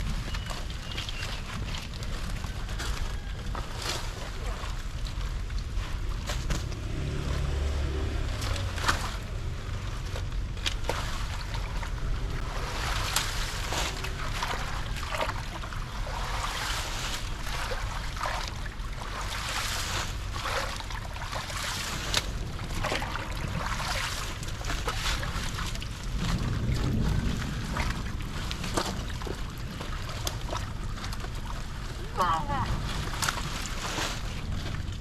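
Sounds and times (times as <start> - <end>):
low steady rumble: 0.0 - 35.0
short water splashes: 0.0 - 35.0
water sloshing and trickling: 0.0 - 35.0.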